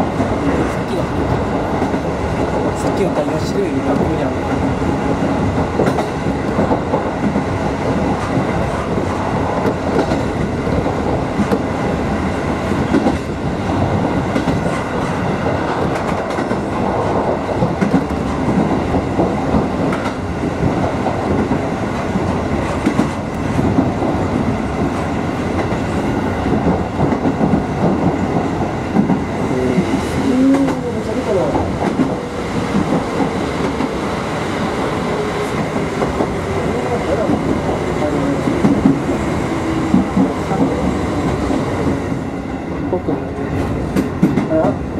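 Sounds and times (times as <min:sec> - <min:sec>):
electric train rolling noise: 0:00.0 - 0:44.9.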